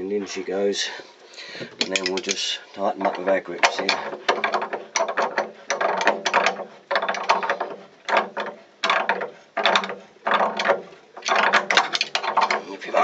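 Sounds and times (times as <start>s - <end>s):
ratcheting grips metallic clicks: 1.8s - 12.8s.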